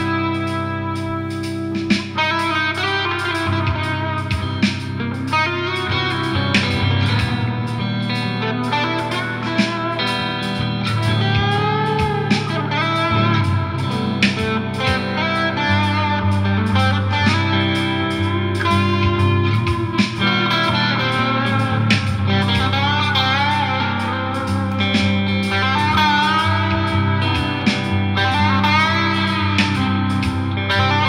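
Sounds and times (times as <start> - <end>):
guitar music: 0.0 - 31.0
steady bass line: 0.0 - 31.0.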